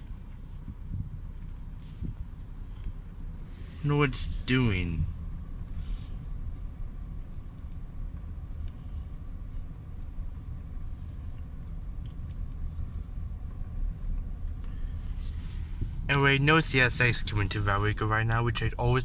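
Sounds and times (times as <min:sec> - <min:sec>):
car interior engine rumble: 0:00.0 - 0:19.0
faint steady whine: 0:00.0 - 0:19.0.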